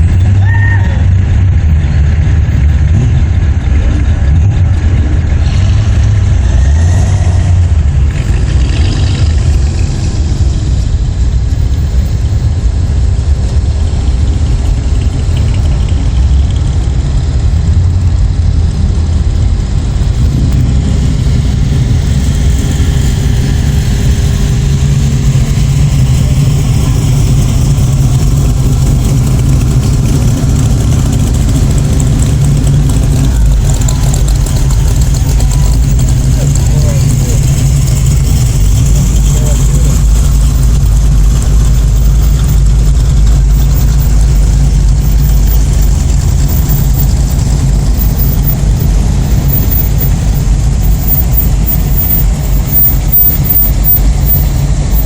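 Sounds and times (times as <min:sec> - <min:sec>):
car engines rumbling: 0:00.0 - 0:55.0.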